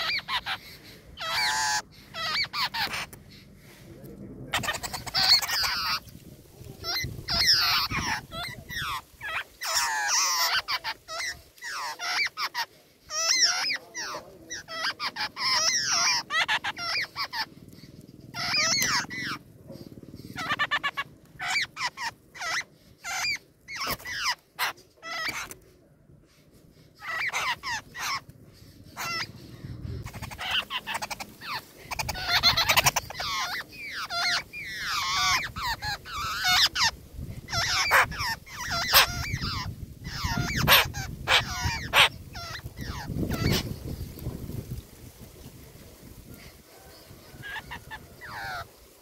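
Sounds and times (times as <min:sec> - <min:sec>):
nestlings begging calls: 0:00.0 - 0:49.0.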